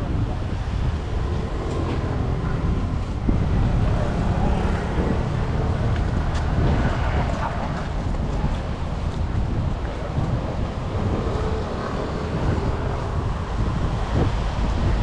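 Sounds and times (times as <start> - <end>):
road traffic rumble: 0.0 - 15.0
wind buffeting microphone: 0.0 - 15.0.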